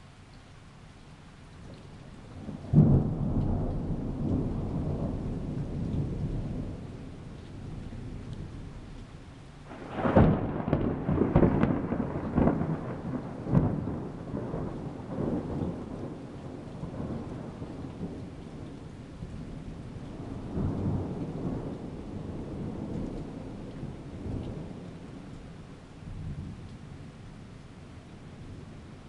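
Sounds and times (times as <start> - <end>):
steady rain: 0.0 - 29.0
thunder: 1.7 - 9.0, 9.6 - 26.6.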